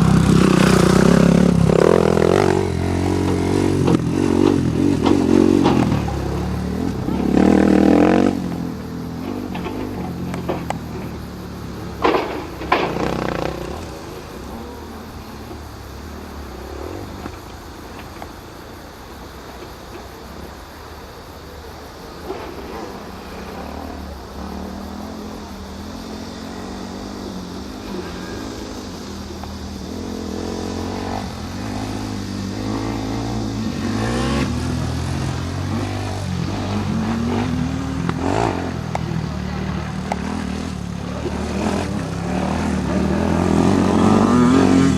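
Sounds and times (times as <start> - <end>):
dirt bike engines droning: 0.0 - 44.9.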